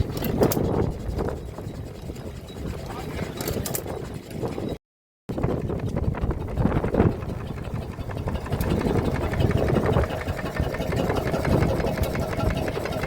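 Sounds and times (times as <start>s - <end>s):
stationary engine running: 0.0s - 13.0s.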